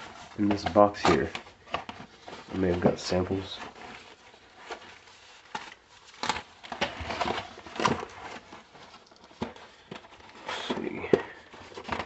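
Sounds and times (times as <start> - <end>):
knocks and clicks of packaging: 0.0 - 12.0
packaging rustling: 0.0 - 12.0.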